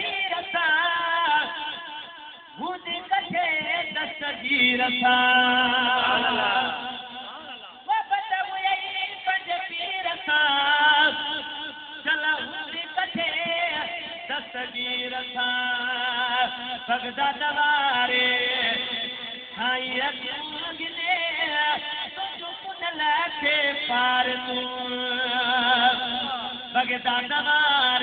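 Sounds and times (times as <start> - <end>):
man chanting: 0.0 - 28.0.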